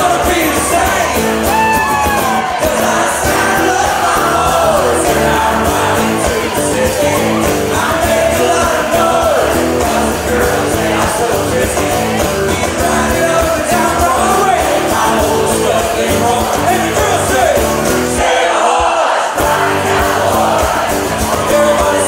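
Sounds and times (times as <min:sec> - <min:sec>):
strummed acoustic guitars: 0:00.0 - 0:18.5, 0:19.2 - 0:22.0
drums: 0:00.0 - 0:22.0
person singing lead vocal: 0:00.0 - 0:22.0.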